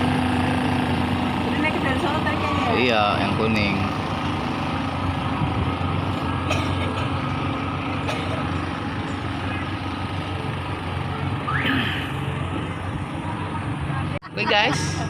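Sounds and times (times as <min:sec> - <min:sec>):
small train engine humming: 0:00.0 - 0:15.0.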